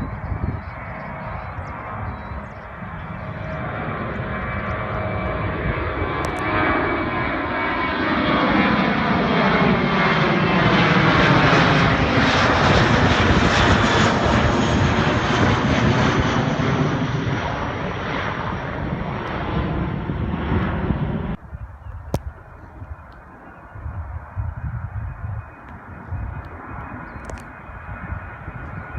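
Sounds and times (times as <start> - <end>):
jet airliner passing overhead: 0.0 - 28.9.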